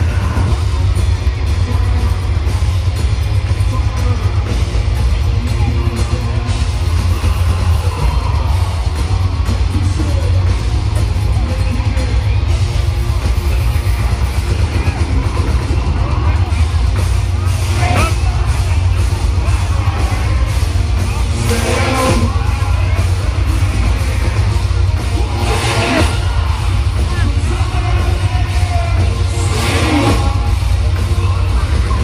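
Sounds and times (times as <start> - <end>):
drum kit: 0.0 - 32.0
heavy metal band playing live: 0.0 - 32.0.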